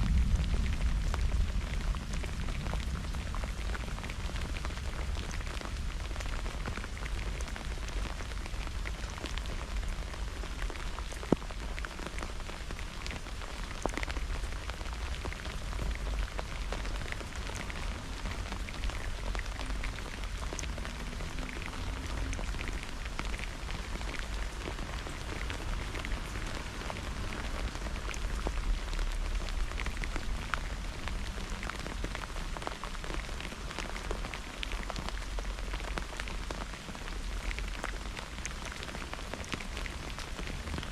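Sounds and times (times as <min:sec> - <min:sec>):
rain drops ticking: 0:00.0 - 0:40.9.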